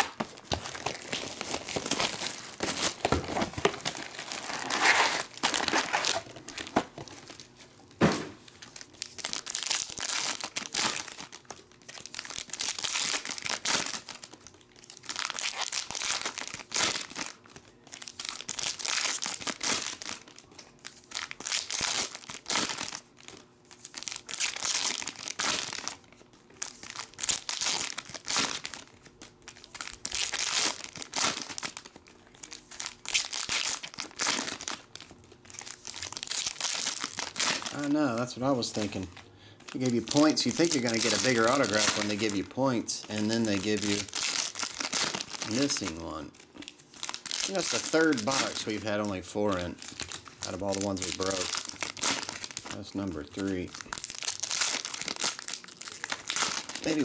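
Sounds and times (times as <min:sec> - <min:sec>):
foil wrappers crinkling and tearing: 0:00.0 - 0:07.7, 0:08.4 - 0:57.0.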